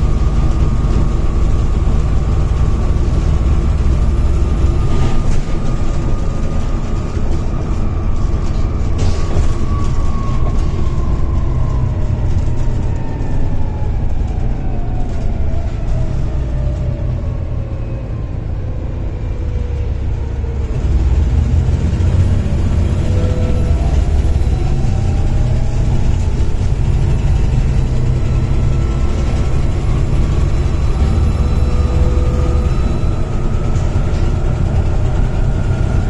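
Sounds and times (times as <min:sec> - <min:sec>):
bus engine with turbo whine: 0:00.0 - 0:36.0.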